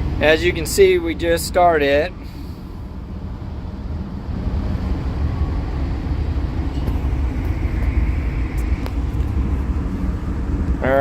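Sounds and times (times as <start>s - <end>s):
excavator diesel engine rumble: 0.0s - 11.0s.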